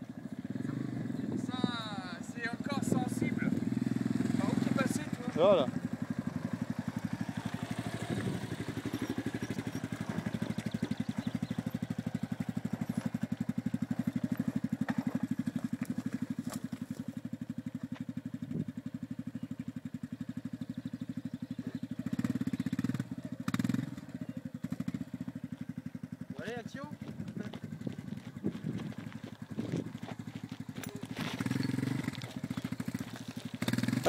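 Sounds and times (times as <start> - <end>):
quad engine running: 0.0 - 34.0.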